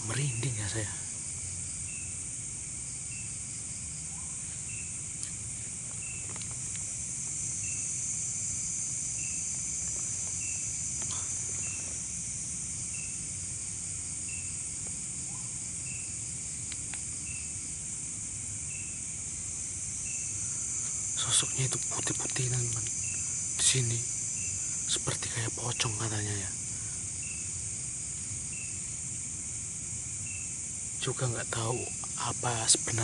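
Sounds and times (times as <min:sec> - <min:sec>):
night insects chorus: 0:00.0 - 0:33.0.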